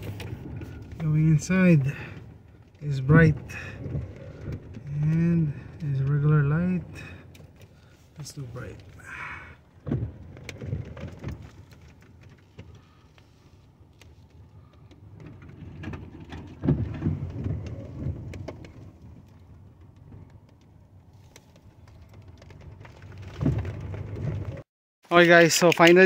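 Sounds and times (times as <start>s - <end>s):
rain ticking on canvas roof: 0.0s - 26.0s.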